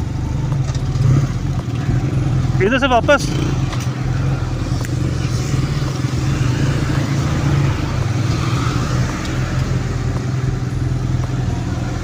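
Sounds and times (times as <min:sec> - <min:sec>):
motorcycle engine running: 0:00.0 - 0:12.0
road and wind rush: 0:00.0 - 0:12.0.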